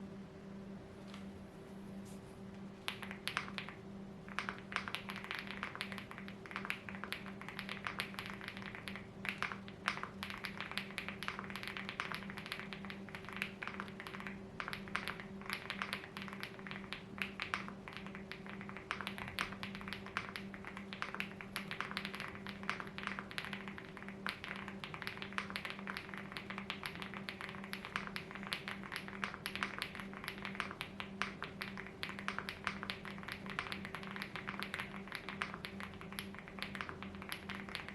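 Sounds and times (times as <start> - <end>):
low background hum: 0.0 - 37.9
mechanical keyboard typing: 2.9 - 37.9.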